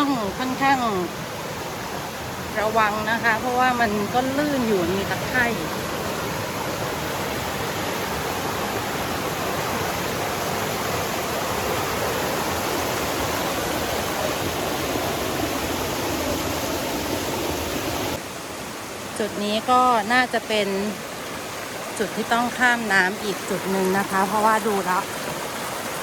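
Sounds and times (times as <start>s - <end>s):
stream water rushing over rocks: 0.0s - 26.0s.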